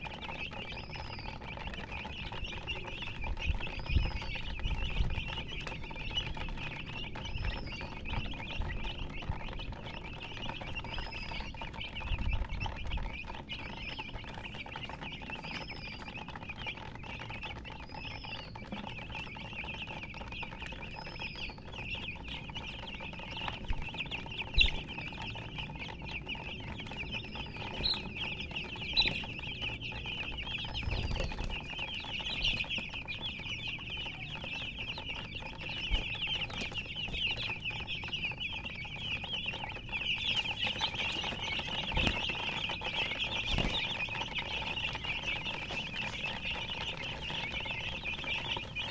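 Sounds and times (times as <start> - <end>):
chicks peeping chorus: 0.0 - 48.9.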